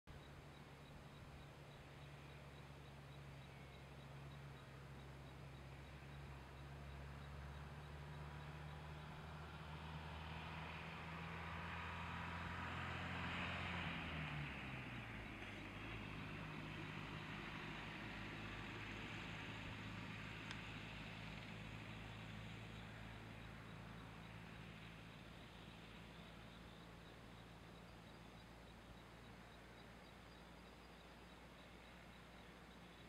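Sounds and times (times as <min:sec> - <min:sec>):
vehicle engine hum passing: 0:00.1 - 0:33.0.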